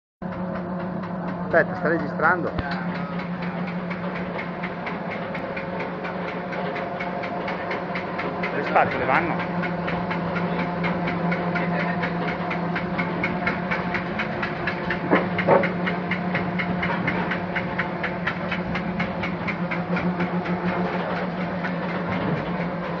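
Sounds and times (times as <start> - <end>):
machine hum: 0.2 - 23.0
rapid even clicking: 0.3 - 23.0.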